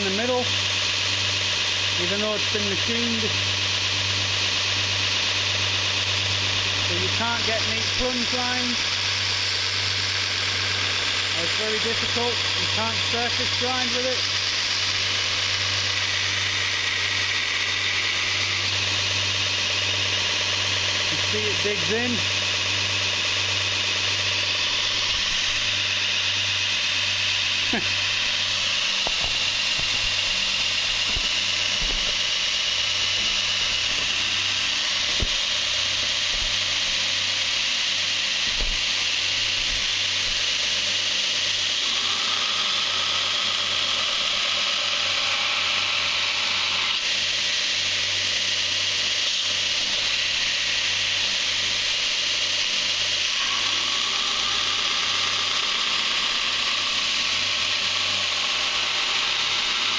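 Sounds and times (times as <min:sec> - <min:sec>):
belt grinder grinding steel: 0:00.0 - 0:59.9
high grinding note: 0:00.0 - 0:59.9.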